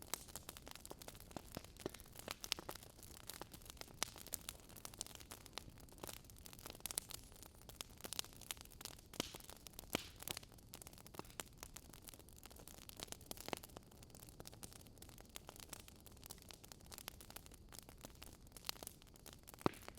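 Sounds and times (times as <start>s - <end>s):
soft hiss of burning: 0.0s - 19.9s
wood fire crackling: 0.0s - 19.9s.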